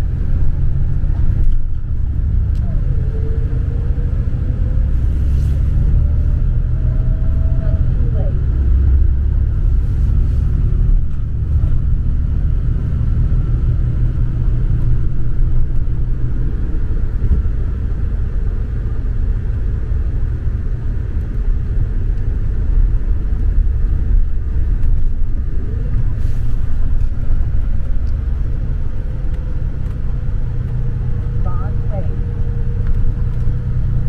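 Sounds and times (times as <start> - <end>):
road vehicle rumble: 0.0 - 34.0.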